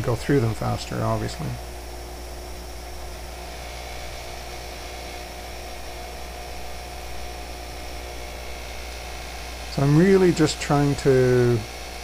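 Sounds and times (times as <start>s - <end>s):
bench grinder motor humming: 0.9s - 12.0s.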